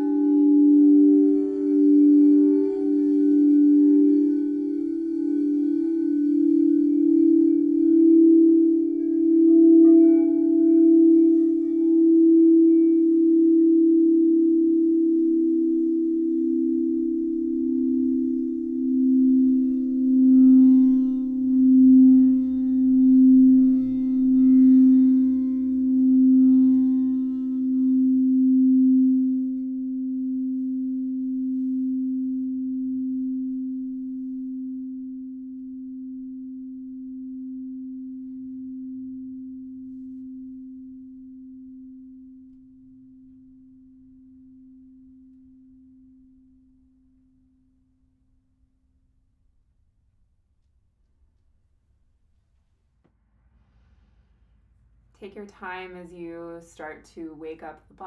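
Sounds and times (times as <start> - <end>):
crystal singing bowls ringing: 0.0 - 46.8.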